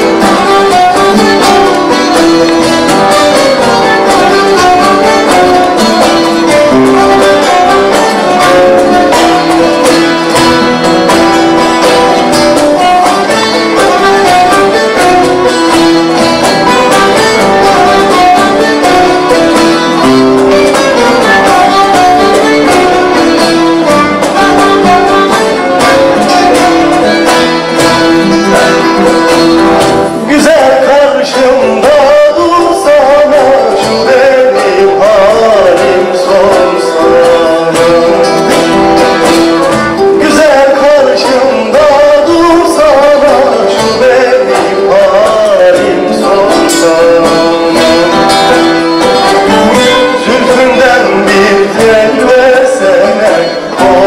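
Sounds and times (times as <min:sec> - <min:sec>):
plucked and bowed strings music: 0:00.0 - 0:54.0.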